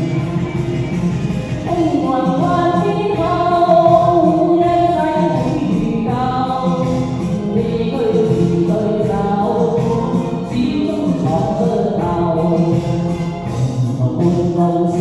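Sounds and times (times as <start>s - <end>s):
pop song karaoke backing track: 0.0s - 15.0s.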